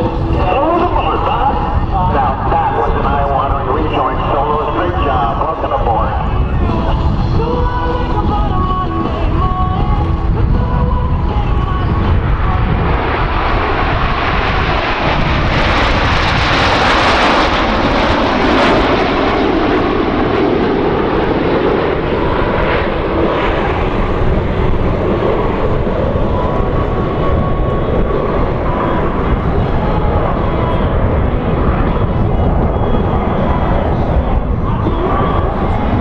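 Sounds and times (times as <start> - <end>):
jet engines rushing: 0.0 - 36.0.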